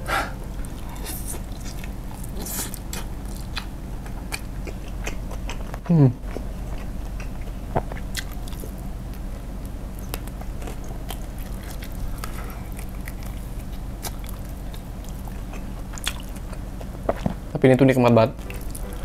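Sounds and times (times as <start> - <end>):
faint low hum: 0.0 - 19.0
chewing crispy fried chicken: 0.5 - 17.4, 18.4 - 19.0.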